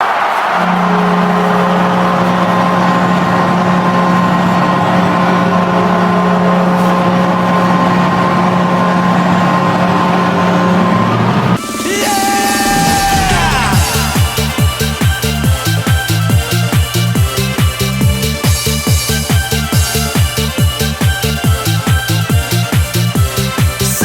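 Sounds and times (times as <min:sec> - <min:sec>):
air horn blaring: 0:00.0 - 0:24.0
crowd cheering: 0:00.0 - 0:24.0.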